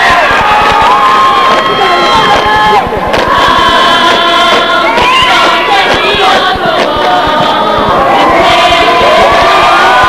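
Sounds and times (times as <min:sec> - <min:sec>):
crowd shouting and cheering: 0:00.0 - 0:10.0
low thumps: 0:00.4 - 0:10.0.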